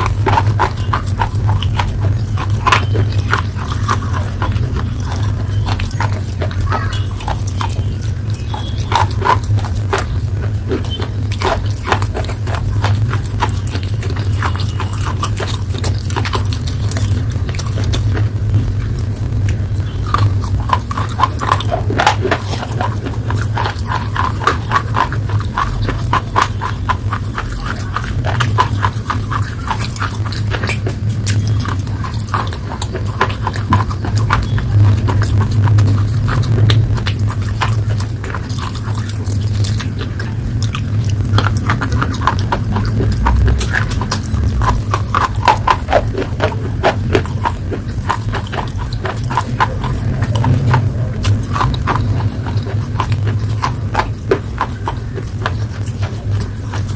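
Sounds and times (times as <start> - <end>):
person chewing crisp paste: 0.0 - 56.9
steady low hum: 0.0 - 56.9.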